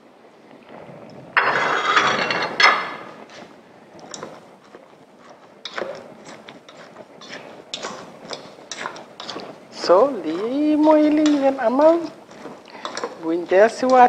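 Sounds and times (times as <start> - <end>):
utensil scraping metal bowl: 1.4 - 3.4, 4.0 - 14.0.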